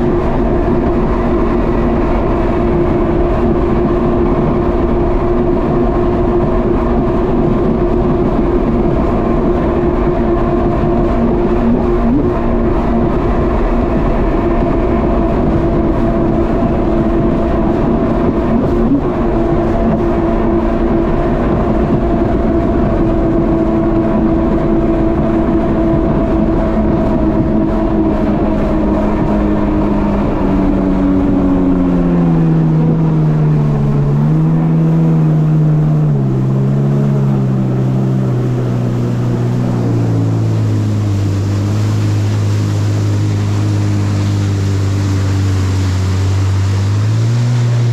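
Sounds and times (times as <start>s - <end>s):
jet ski engine running: 0.0s - 47.9s
water rushing: 0.0s - 47.9s.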